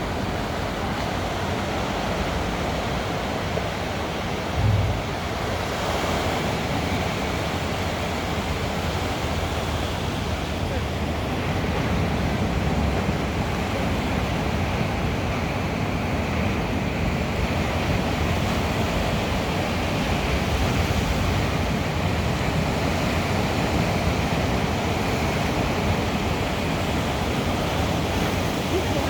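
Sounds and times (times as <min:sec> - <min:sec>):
sea waves washing on beach: 0:04.5 - 0:29.0.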